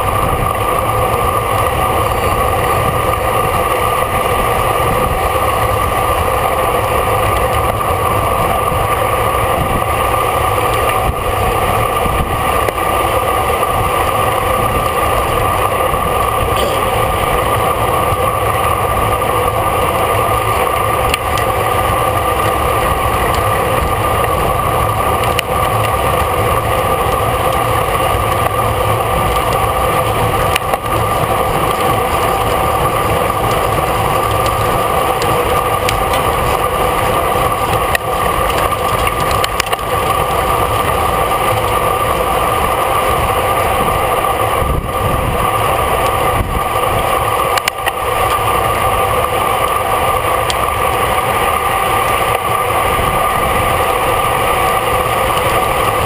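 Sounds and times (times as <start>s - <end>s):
bicycle road noise: 0.0s - 56.0s
wind buffeting microphone: 0.0s - 56.0s.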